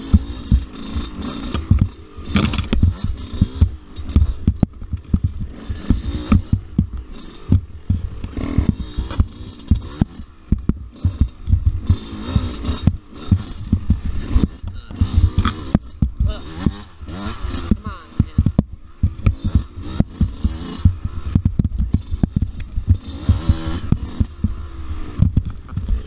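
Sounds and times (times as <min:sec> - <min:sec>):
bike thumping over rough trail: 0:00.0 - 0:26.0
dirt bike engine running: 0:00.0 - 0:26.0.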